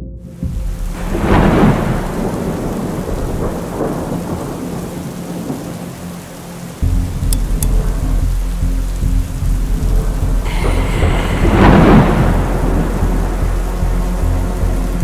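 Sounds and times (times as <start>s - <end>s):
low drone: 0.0s - 15.0s
steady rain: 0.3s - 15.0s
thunder rolling: 0.4s - 15.0s.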